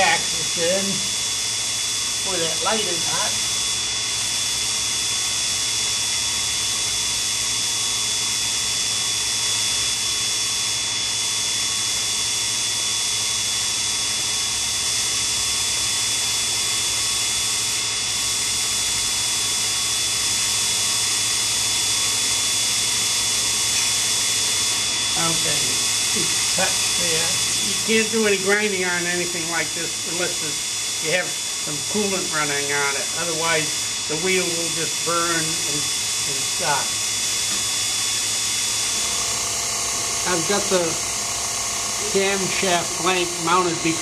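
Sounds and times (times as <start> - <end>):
grinder motor hum and whine: 0.0 - 44.0.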